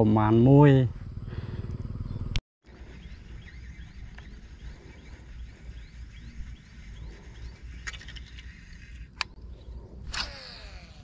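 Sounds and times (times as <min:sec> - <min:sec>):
low steady rumble: 0:00.2 - 0:11.0.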